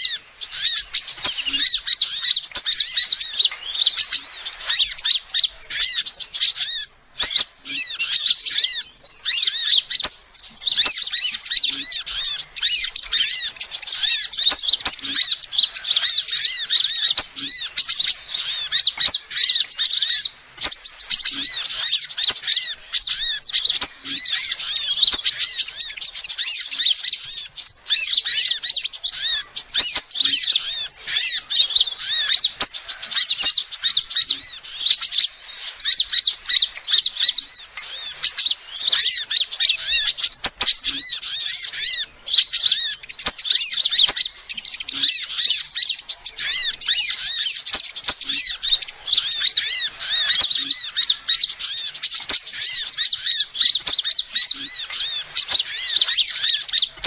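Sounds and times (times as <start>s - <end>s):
bird chirping and trilling: 0.0s - 57.0s.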